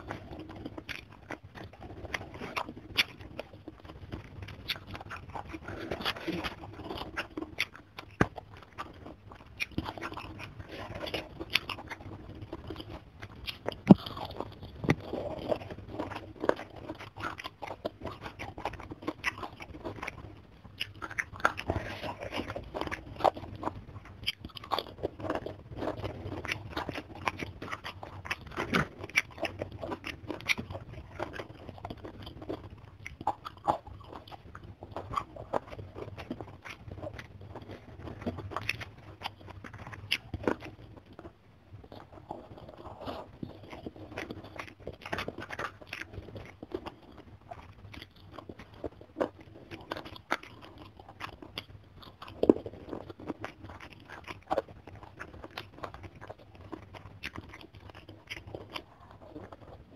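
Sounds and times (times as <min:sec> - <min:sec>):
crunching and chewing food: 0:00.0 - 0:59.9.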